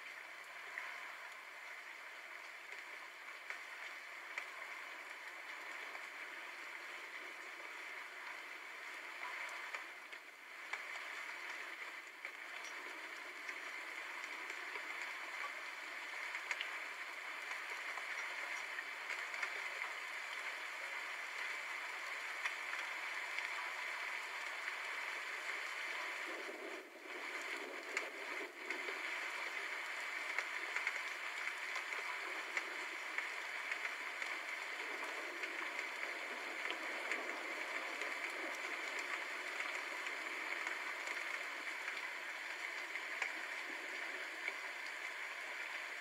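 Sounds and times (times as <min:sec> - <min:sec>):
raindrop ticks: 0:00.0 - 0:46.0
steady rain hiss: 0:00.0 - 0:46.0.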